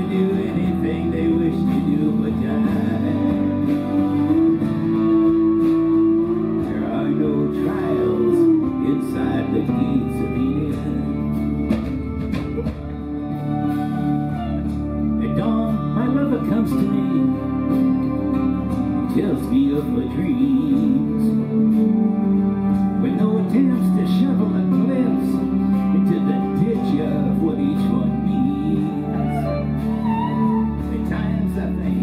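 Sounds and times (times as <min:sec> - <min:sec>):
live band with guitar: 0:00.0 - 0:32.0.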